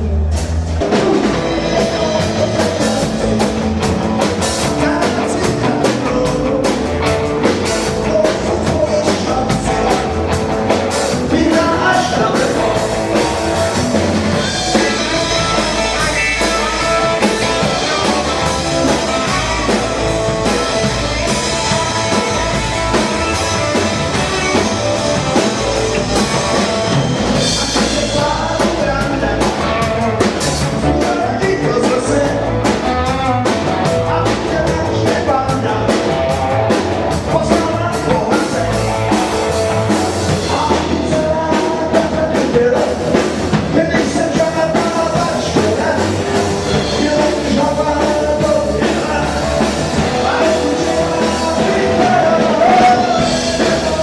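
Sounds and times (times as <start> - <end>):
rock band playing live: 0.0 - 54.0
person singing: 0.8 - 54.0.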